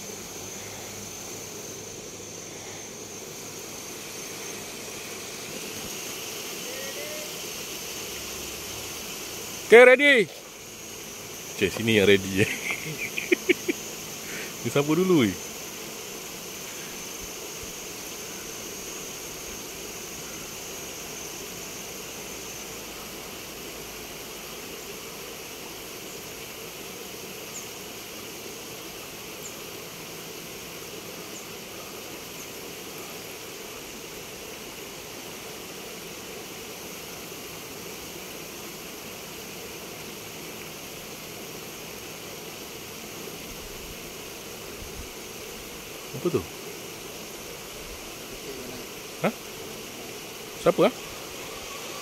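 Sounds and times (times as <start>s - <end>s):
high insect drone: 0.0s - 52.0s
outdoor background hiss: 0.0s - 52.0s.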